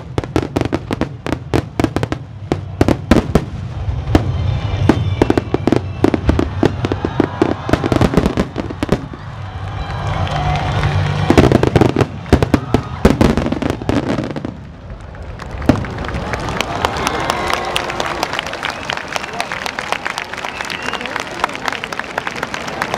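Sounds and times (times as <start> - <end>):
fireworks bursting and crackling: 0.0 - 19.4.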